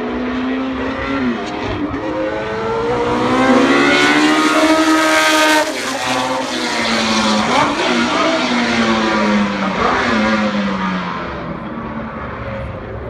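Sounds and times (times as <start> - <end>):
racing engine revving: 0.0 - 13.0.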